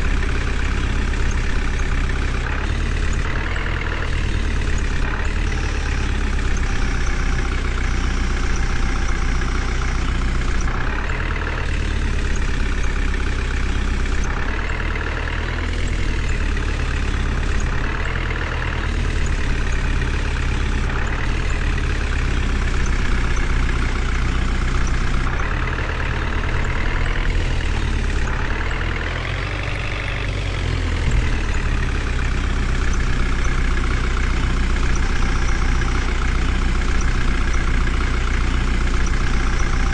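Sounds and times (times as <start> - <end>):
heavy vehicle engine revving: 0.0 - 39.9.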